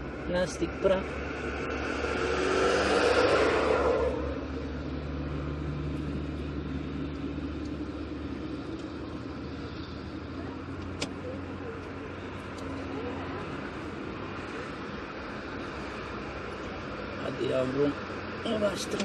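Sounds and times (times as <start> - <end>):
steady low hum: 0.0 - 17.1
road vehicle passing: 0.0 - 19.0.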